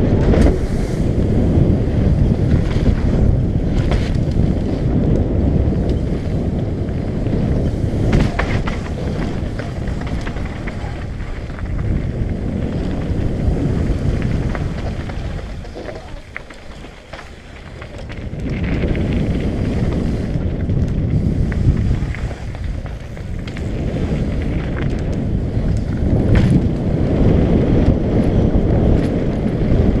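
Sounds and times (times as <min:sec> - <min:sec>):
bike clicks and rattles: 0:00.0 - 0:30.0
tyres rolling over dirt: 0:00.0 - 0:30.0
wind buffeting microphone: 0:00.0 - 0:30.0.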